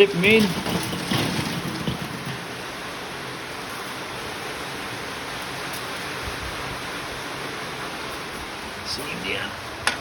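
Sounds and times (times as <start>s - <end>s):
heavy rain on a roof: 0.0s - 9.9s.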